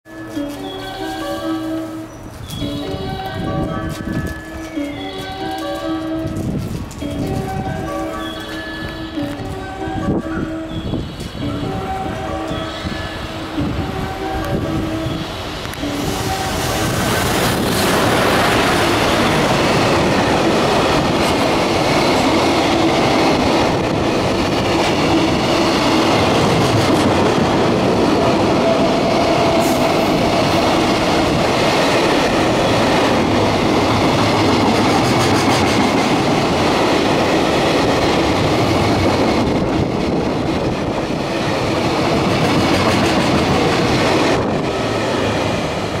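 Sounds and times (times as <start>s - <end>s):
rail joints clickety-clack: 0.1s - 46.0s
train wheels rumbling on rails: 0.1s - 46.0s.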